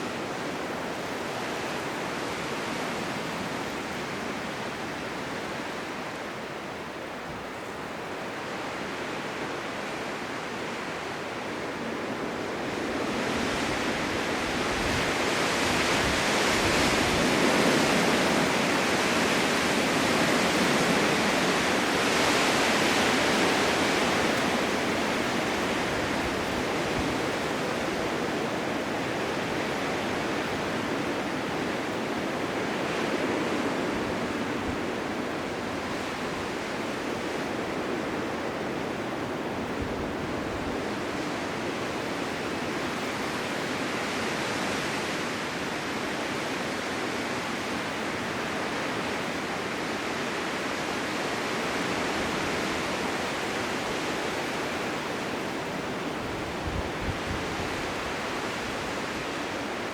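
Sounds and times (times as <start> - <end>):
blizzard wind rushing: 0.0 - 59.9.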